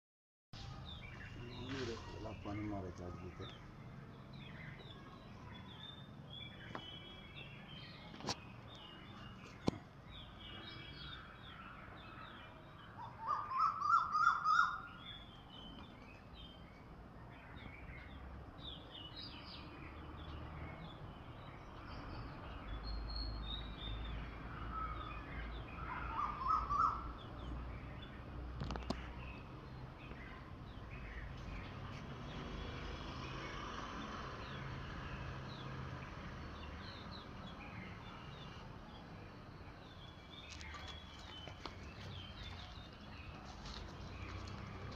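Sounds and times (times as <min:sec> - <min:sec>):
birds singing and chirping: 0:00.6 - 0:44.9.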